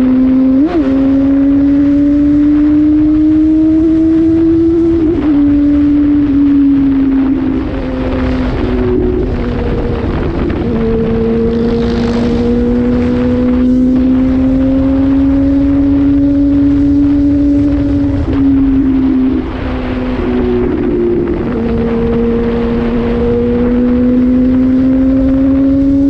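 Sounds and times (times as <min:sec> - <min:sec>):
motorcycle engine cruising: 0:00.0 - 0:26.0
wind rumble on microphone: 0:00.0 - 0:26.0.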